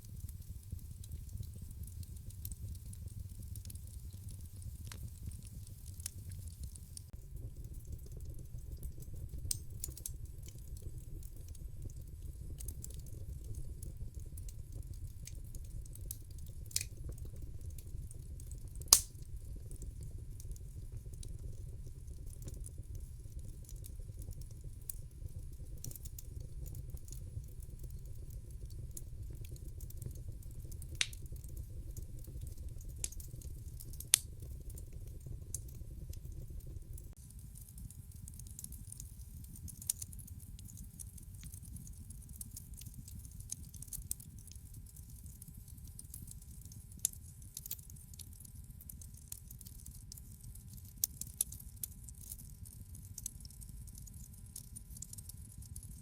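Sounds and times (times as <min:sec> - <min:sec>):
low rumble of fire flames: 0:00.0 - 0:56.0
wood fire popping and crackling: 0:00.0 - 0:56.0.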